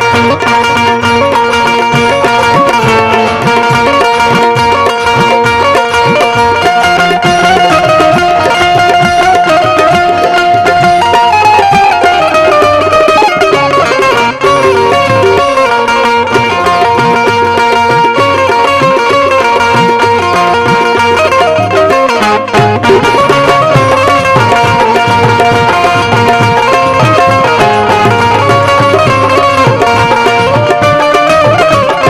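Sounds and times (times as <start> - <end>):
hand drum beat: 0.0 - 32.0
sustained melody line: 0.0 - 32.0.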